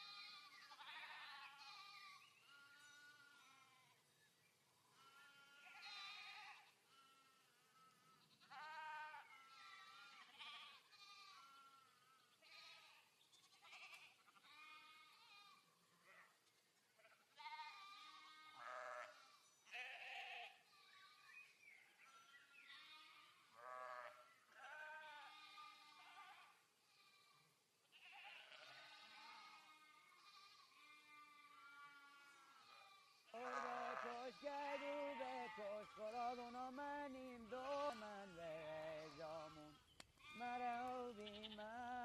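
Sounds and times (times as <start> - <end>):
goats bleating: 0.0 - 4.0, 4.9 - 16.3, 17.0 - 21.3, 22.6 - 42.0.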